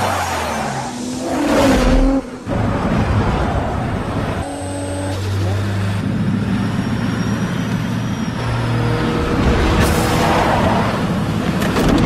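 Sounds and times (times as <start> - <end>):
road noise: 0.0 - 12.0
vehicle engines at highway speed: 0.0 - 12.0.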